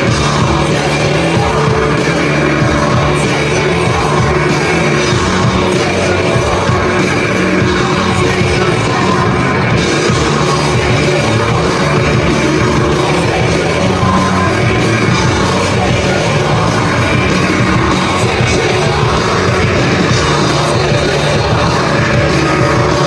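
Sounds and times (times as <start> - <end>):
live rock band playing: 0.0 - 23.0
person singing: 0.0 - 23.0.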